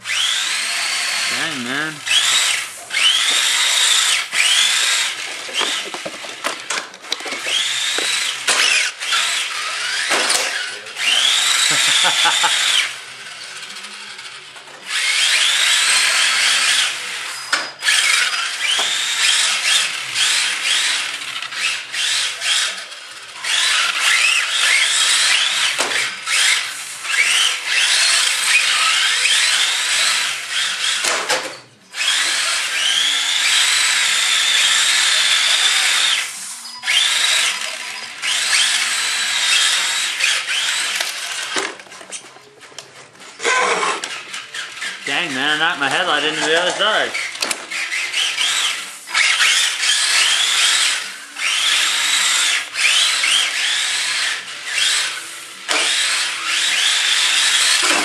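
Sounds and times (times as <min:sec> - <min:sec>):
electric motor whine: 0:00.0 - 0:31.1, 0:31.9 - 0:41.7, 0:43.4 - 0:58.0
tyres sliding on concrete: 0:01.9 - 0:58.0.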